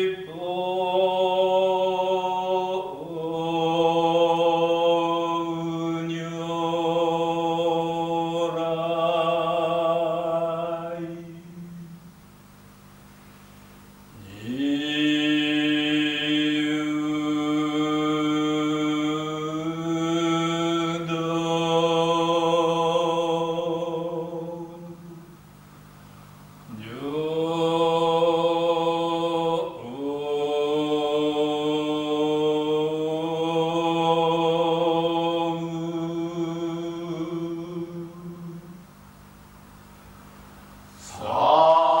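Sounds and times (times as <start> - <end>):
priest chanting: 0.0 - 12.1, 14.2 - 25.3, 26.7 - 38.8, 41.0 - 42.0
steady low tone: 0.0 - 42.0.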